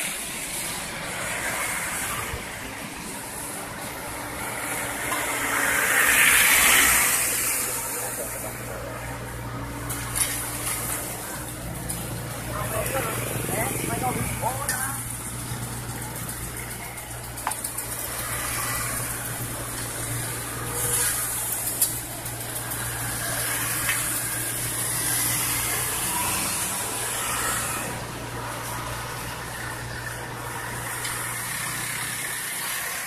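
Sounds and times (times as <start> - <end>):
vehicles passing on wet road: 0.0 - 33.0.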